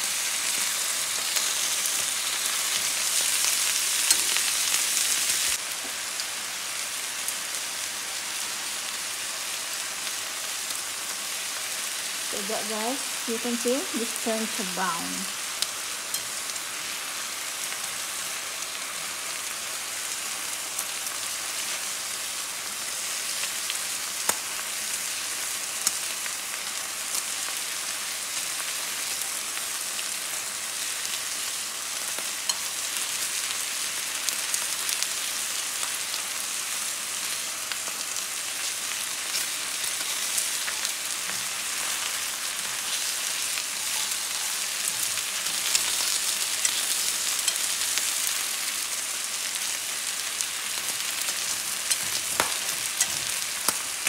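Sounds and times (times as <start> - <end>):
meat sizzling in a frying pan: 0.0 - 54.0.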